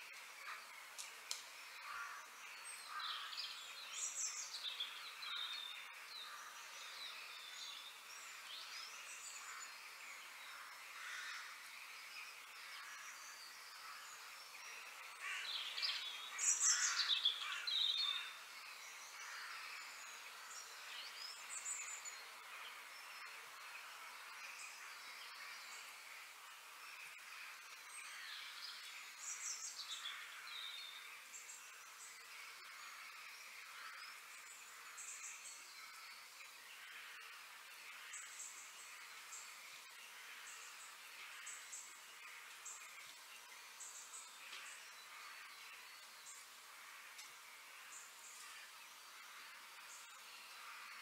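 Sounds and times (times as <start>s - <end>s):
steady outdoor hiss: 0.0s - 51.0s
birds chirping: 0.1s - 51.0s.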